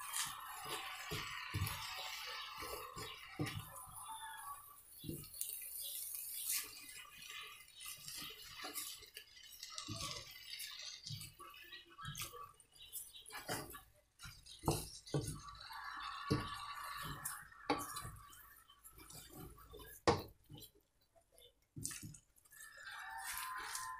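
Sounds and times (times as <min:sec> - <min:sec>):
utensil stirring noodles in a wok: 0:00.0 - 0:23.9.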